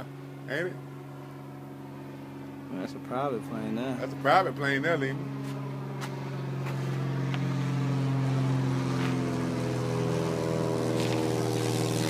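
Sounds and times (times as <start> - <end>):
plane engine droning: 0.0 - 12.0.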